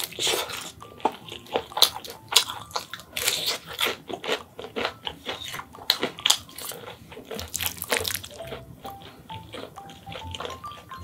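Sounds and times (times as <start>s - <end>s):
crunching and chewing fried food: 0.0s - 11.0s.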